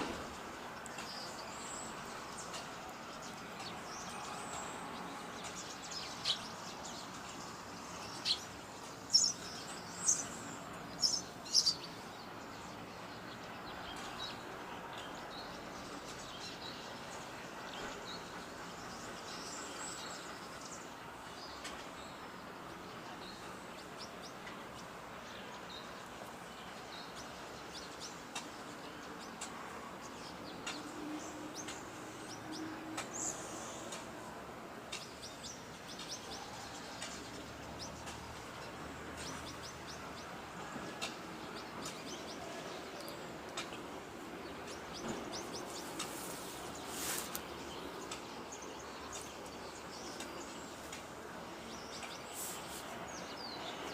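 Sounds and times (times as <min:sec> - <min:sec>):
outdoor background noise: 0:00.0 - 0:53.9
small birds chirping: 0:00.0 - 0:53.9.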